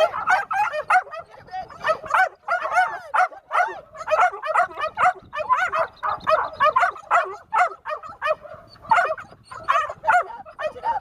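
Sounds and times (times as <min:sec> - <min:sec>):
puppy yipping and barking: 0:00.0 - 0:11.0.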